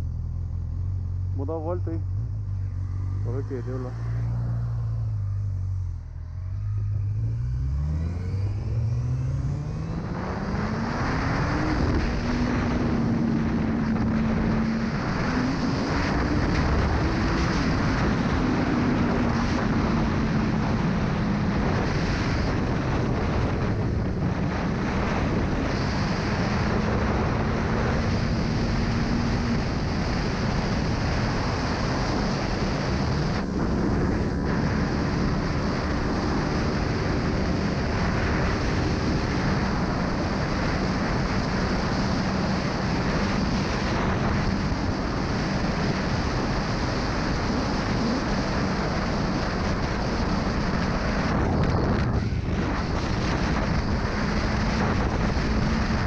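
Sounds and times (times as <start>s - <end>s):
motorcycle engine accelerating: 0.0s - 56.0s
wind rush: 1.4s - 56.0s.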